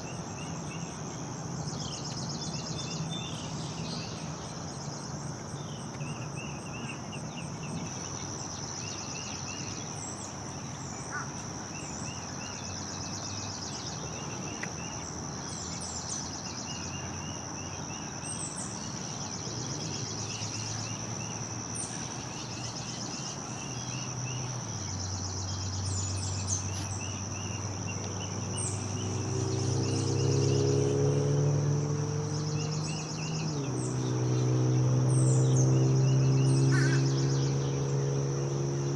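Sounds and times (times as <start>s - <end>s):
high-pitched insect chorus: 0.0s - 38.9s
songbirds calling: 0.0s - 38.9s.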